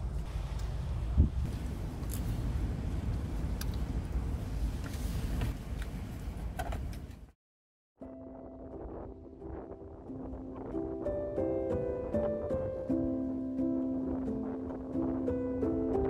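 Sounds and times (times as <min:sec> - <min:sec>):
steady low rumble: 0:00.0 - 0:06.6, 0:08.4 - 0:16.0.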